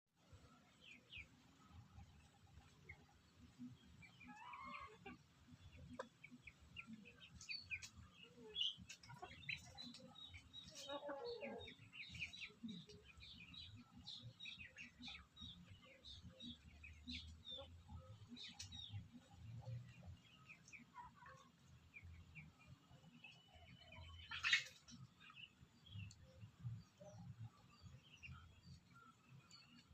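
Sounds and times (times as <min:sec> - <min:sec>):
birds chirping: 0:00.3 - 0:29.9.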